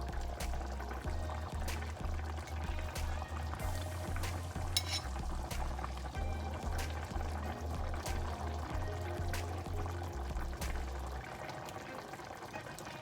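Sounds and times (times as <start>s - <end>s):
background music with bass line: 0.0s - 11.3s
liquid cooking in a pot: 0.0s - 13.0s.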